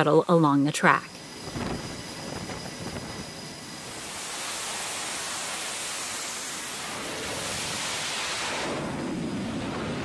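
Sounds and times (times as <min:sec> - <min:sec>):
jet engines at full power: 0:00.0 - 0:10.0.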